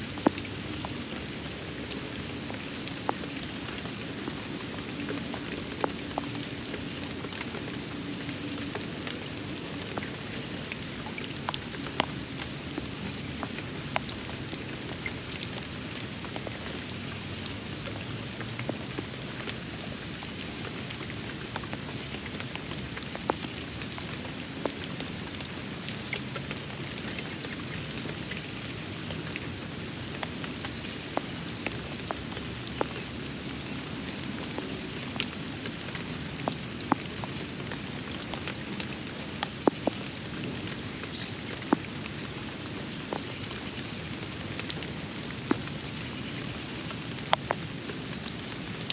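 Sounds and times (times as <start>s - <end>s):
rain falling on pond: 0.0s - 48.9s.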